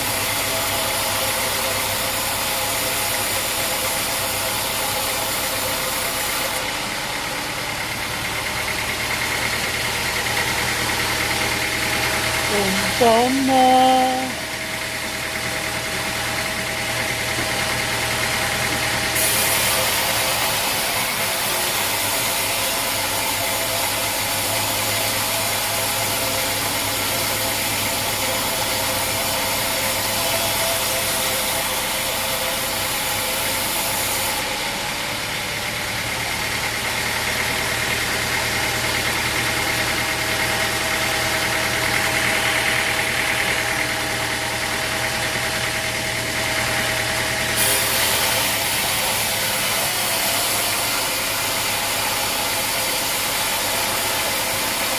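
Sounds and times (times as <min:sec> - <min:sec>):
sawmill machinery humming and whining: 0:00.0 - 0:54.9.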